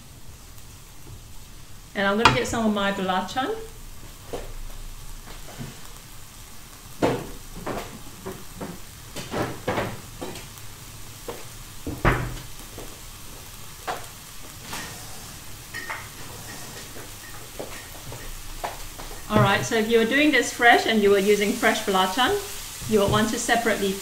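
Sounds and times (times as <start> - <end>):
chili paste sizzling in oil: 0.0 - 24.0.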